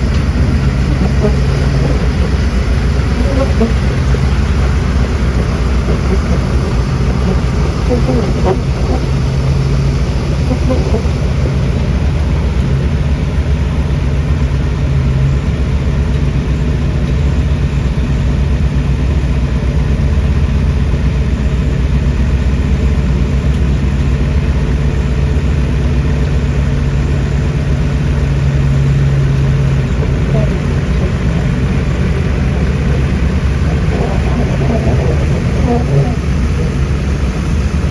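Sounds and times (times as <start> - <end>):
diesel engine droning: 0.0 - 37.9.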